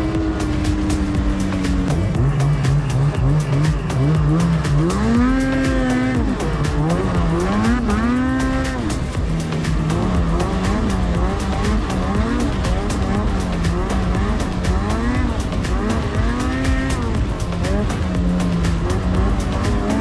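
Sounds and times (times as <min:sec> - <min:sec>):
snowmobile engine revving: 0:00.0 - 0:20.0.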